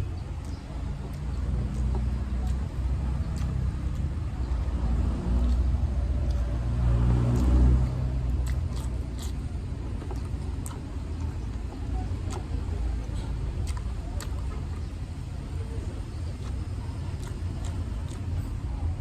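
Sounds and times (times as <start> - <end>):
person chewing food: 0.1 - 19.0.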